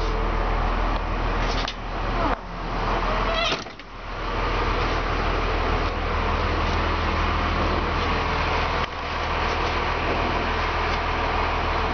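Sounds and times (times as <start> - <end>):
truck engine hum: 0.0 - 11.9.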